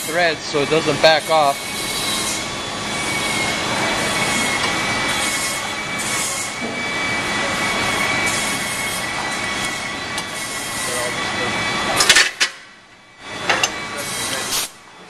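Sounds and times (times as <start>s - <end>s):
high-pitched whine: 0.0s - 15.0s
machinery drone: 0.0s - 15.0s.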